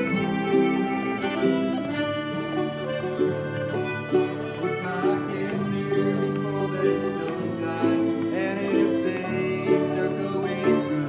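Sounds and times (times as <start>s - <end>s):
folk band playing slow tune: 0.0s - 11.0s.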